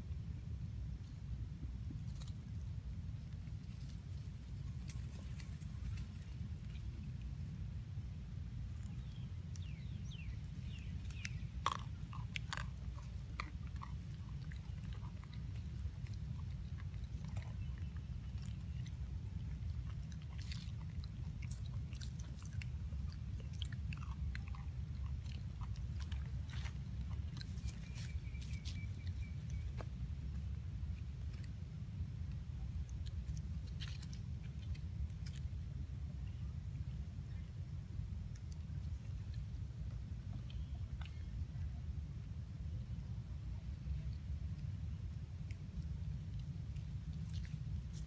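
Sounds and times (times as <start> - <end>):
steady low rumble: 0.0 - 48.0
monkey chewing and crunching food: 1.0 - 48.0.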